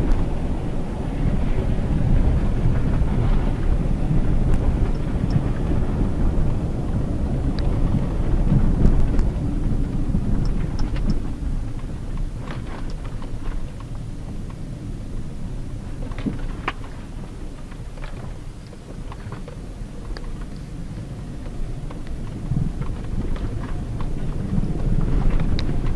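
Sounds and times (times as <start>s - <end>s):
car rumbling on dirt road: 0.0s - 25.9s.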